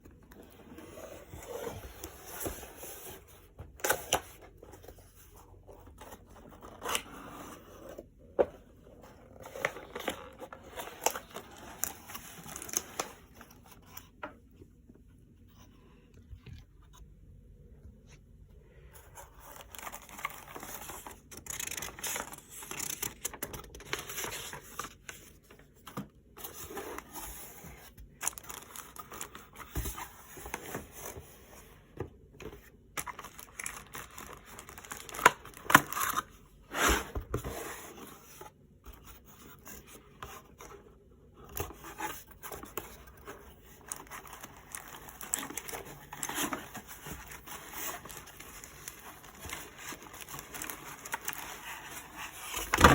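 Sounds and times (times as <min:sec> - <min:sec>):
cardboard and plastic wrap rustling: 0:00.0 - 0:14.2, 0:19.0 - 0:52.9.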